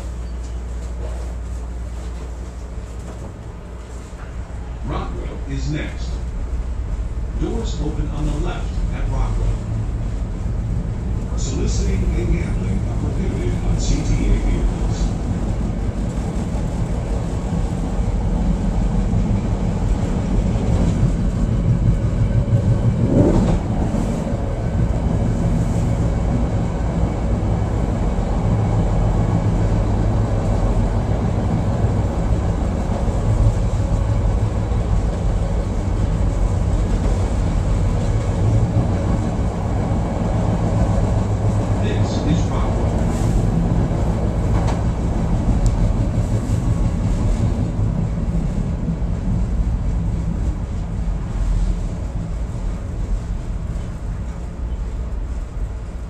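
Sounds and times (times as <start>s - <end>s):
train wheels and motors rumbling: 0.0s - 56.0s.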